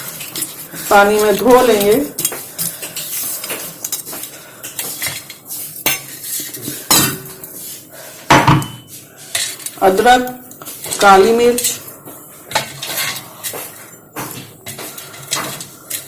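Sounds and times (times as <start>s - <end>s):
dishes and utensils clinking: 0.0s - 7.6s, 8.3s - 16.0s.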